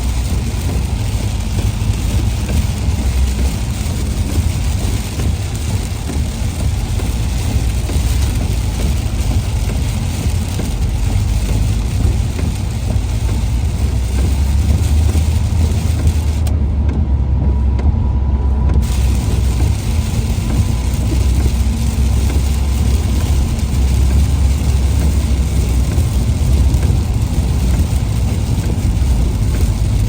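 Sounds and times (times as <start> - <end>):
hiss of rain and road spray: 0.0 - 16.6, 18.8 - 30.0
engine and tyres rumbling: 0.0 - 30.0.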